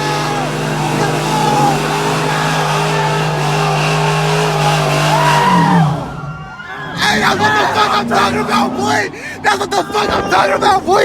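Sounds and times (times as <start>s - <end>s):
car engine revving high: 0.0s - 11.0s
tyres spinning and squealing: 0.0s - 11.0s.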